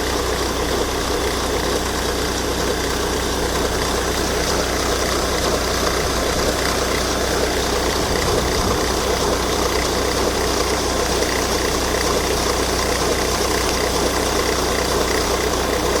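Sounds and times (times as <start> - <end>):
diesel car engine idling: 0.0 - 16.0.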